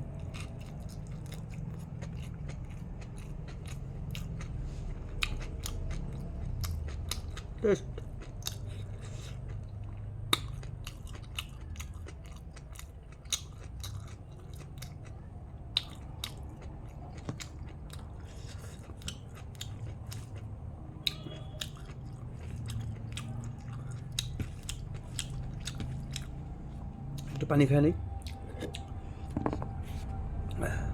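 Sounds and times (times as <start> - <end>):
person chewing food: 0.0 - 27.5, 28.1 - 30.8.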